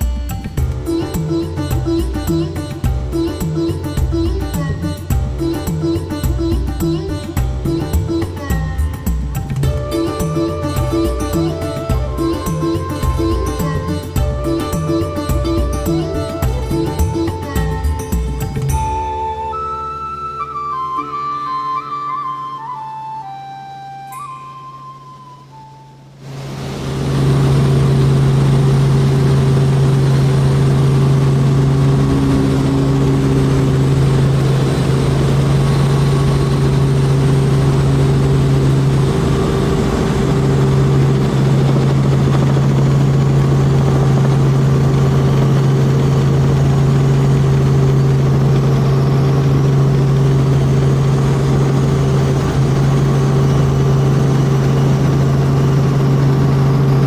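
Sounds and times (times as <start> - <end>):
helicopter engine and rotors: 0.0 - 19.6, 26.3 - 57.0.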